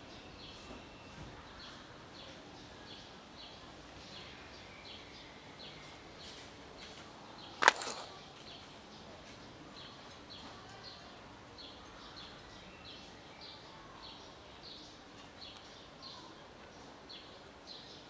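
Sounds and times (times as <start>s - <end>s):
faint background noise: 0.0s - 18.0s.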